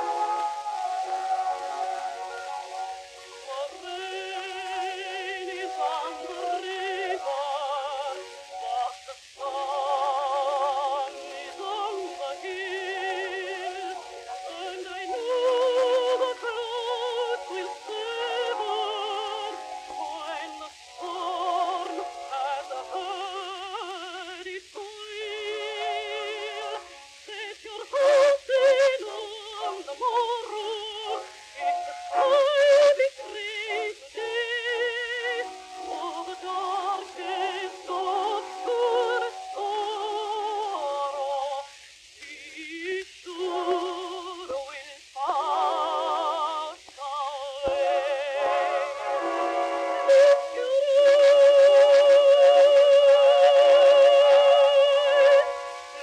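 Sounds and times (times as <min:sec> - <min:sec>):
record surface hiss: 0:00.0 - 0:56.0
woman singing a ballad: 0:03.5 - 0:41.7, 0:42.3 - 0:49.1, 0:50.3 - 0:56.0.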